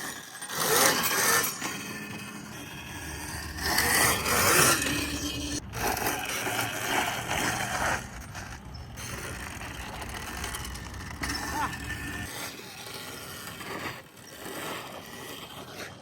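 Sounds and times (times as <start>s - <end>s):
tyres scraping over dirt: 0.0s - 16.0s.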